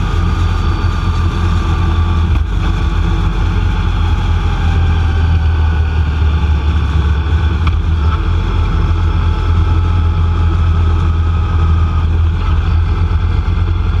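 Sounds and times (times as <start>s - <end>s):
faint steady whine: 0.0s - 14.0s
vehicle engine and tyres droning: 0.0s - 14.0s.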